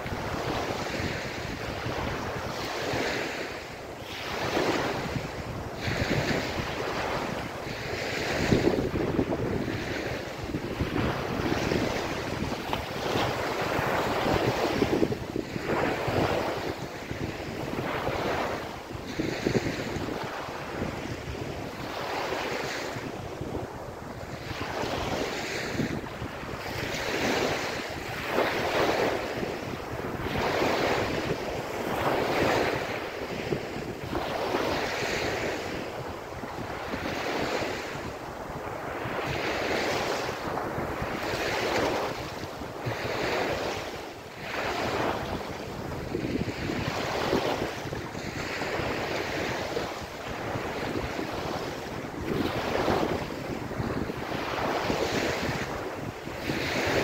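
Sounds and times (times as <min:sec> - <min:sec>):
small waves washing on sand: 0:00.0 - 0:57.0.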